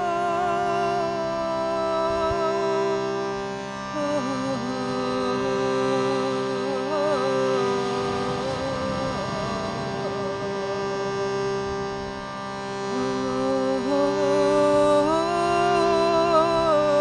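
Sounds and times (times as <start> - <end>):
reed box drone: 1.0 - 17.0.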